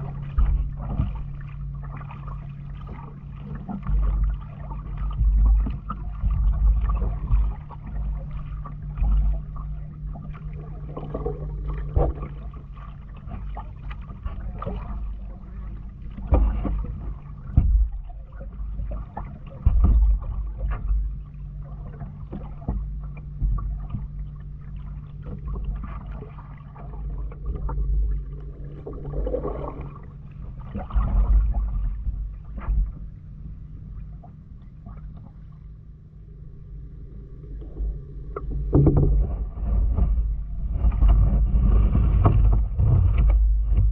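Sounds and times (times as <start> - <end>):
low rumbling: 0.0 - 43.9
paddle splashing water: 0.0 - 43.9
steady low hum: 0.0 - 43.9.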